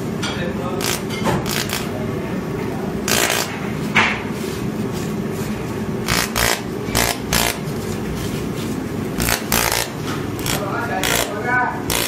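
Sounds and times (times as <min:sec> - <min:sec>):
welding machine humming: 0:00.0 - 0:03.9, 0:04.8 - 0:12.0.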